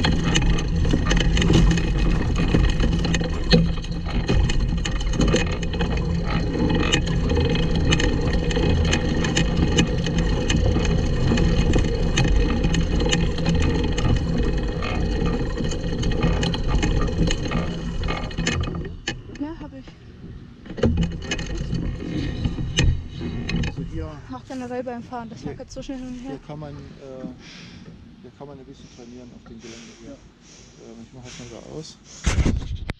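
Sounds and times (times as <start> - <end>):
kart rolling over bumpy grass: 0.0 - 27.4
frame rattling and knocking: 0.0 - 28.7.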